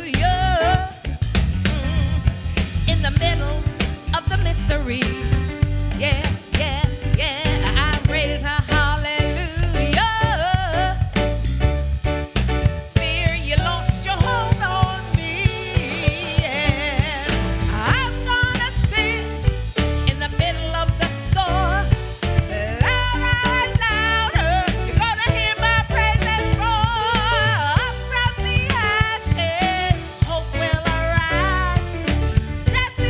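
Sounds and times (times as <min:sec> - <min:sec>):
person singing: 0:00.0 - 0:11.2, 0:13.0 - 0:33.0
drums and percussion beat: 0:00.0 - 0:33.0
keyboard chords: 0:00.0 - 0:33.0.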